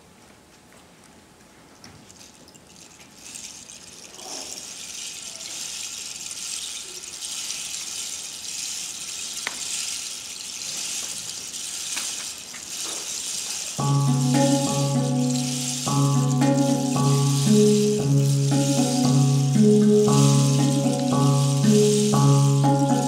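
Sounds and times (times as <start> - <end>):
rain stick hissing: 2.2 - 23.0.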